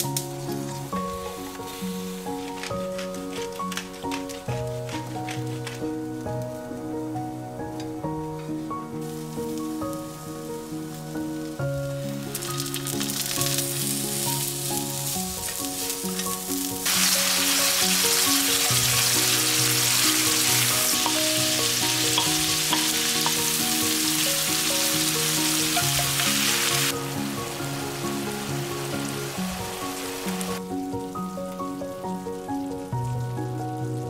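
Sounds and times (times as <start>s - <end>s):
meat sizzling in a frying pan: 0.0s - 7.1s, 8.0s - 34.0s
background music: 0.0s - 34.0s.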